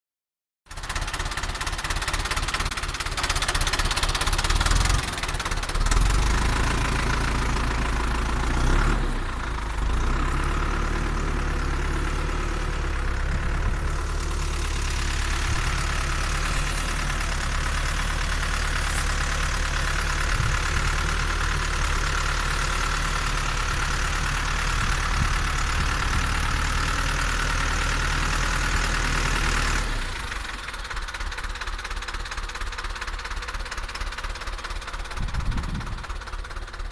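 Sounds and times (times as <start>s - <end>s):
tractor diesel engine knocking: 0.7s - 36.9s.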